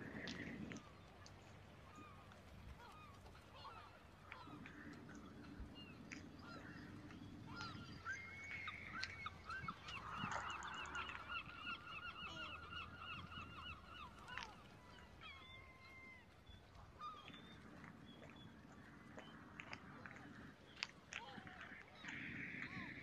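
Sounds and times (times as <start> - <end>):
bird calling: 0.0 - 23.0.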